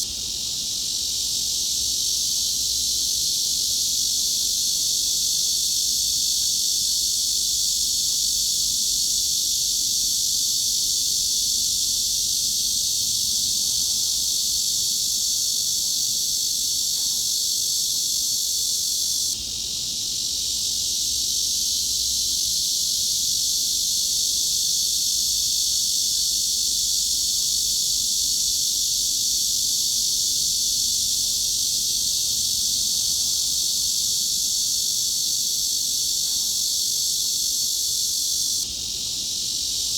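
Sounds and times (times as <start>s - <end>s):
high-pitched cicada buzz: 0.0s - 39.9s.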